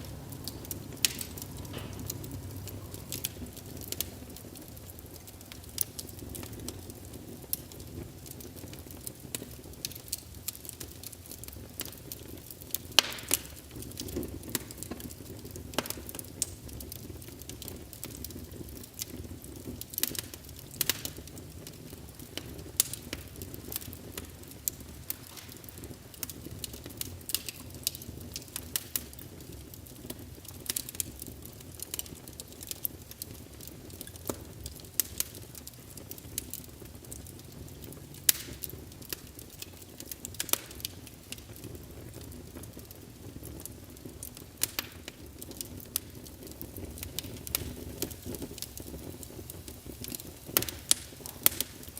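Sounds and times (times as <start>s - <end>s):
logs crackling and popping: 0.0s - 51.9s
low rush of flames: 0.0s - 51.9s.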